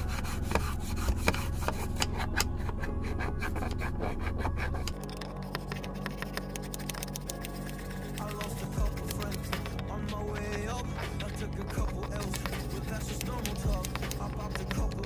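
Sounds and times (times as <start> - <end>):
brush scrubbing plastic: 0.0 - 9.8, 10.4 - 15.0.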